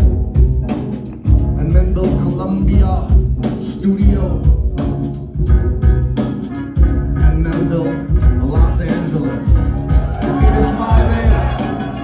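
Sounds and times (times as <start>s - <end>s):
drum-kit beat: 0.0s - 12.0s
keyboards: 0.0s - 12.0s
upright bass: 0.0s - 12.0s.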